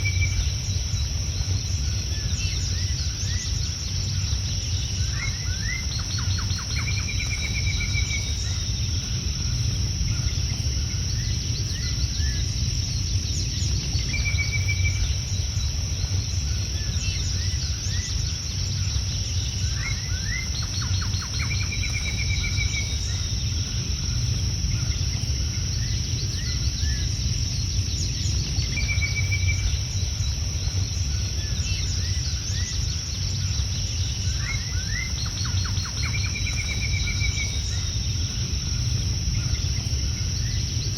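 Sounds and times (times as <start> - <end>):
high-pitched insect drone: 0.0 - 40.9
low rumble: 0.0 - 40.9
songbird chirping and trilling: 0.0 - 40.9.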